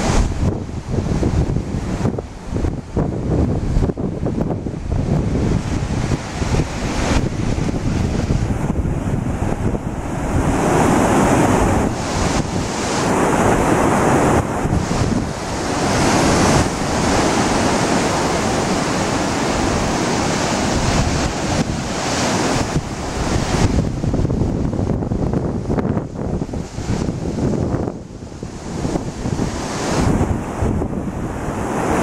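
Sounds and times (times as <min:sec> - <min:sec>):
surf breaking on rocks: 0:00.0 - 0:32.0
wind buffeting microphone: 0:00.0 - 0:32.0.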